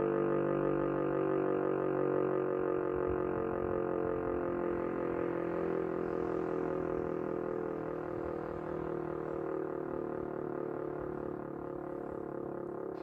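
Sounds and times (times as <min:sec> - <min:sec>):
motor siren howling: 0:00.1 - 0:13.0.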